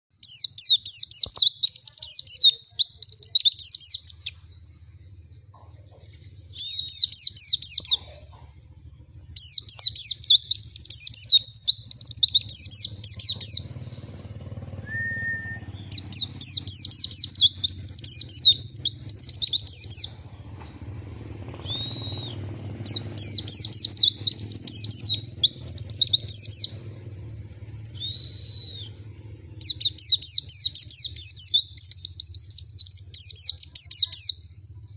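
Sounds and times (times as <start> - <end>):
bird twittering song: 0.1 - 34.9.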